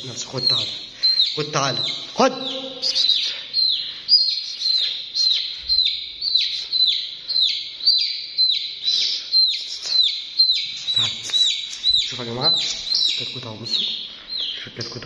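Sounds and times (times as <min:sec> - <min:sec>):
chick peeping: 0:00.0 - 0:15.0.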